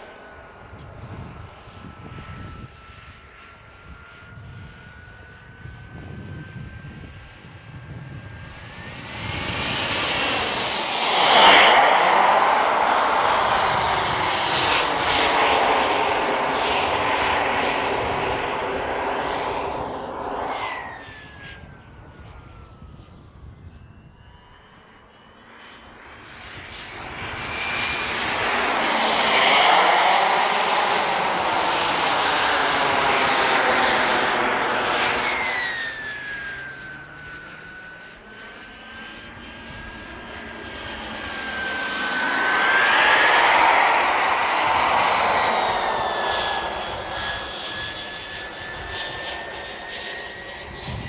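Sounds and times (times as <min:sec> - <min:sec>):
jet turbine whine: 0:00.0 - 0:51.0.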